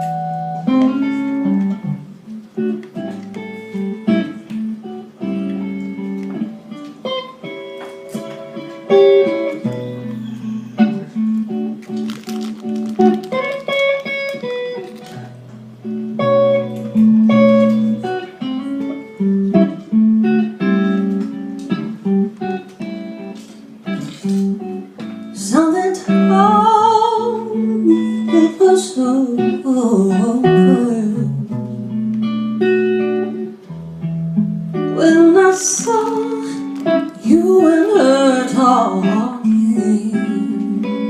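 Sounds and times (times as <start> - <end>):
guitar picking notes and chords: 0.0 - 41.0.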